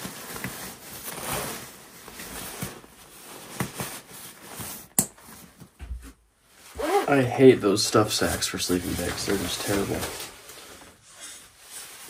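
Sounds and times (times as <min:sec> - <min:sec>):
sleeping bag fabric rustling: 0:00.0 - 0:05.7, 0:06.5 - 0:07.3, 0:08.2 - 0:12.0.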